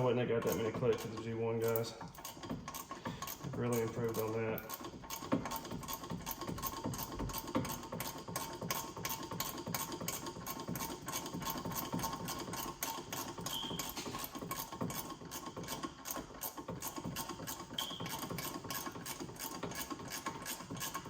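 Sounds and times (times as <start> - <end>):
ratchet clicking: 0.0 - 21.0.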